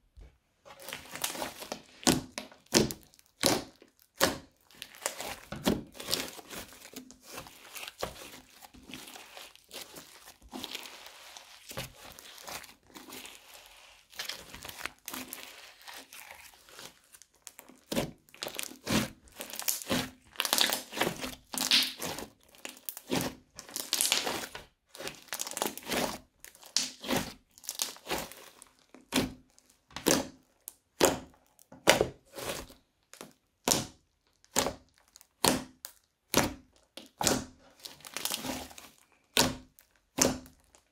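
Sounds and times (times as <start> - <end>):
crunchy slime crackling: 0.7 - 40.9.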